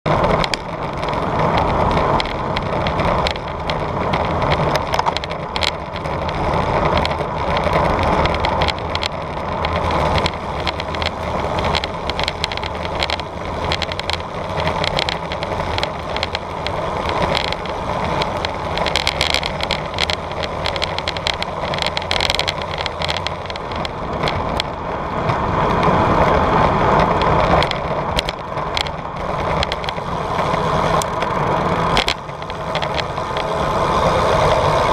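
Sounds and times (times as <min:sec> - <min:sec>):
bicycle clicks and rattles: 0:00.1 - 0:34.9
bicycle tyres and air rushing: 0:00.1 - 0:34.9.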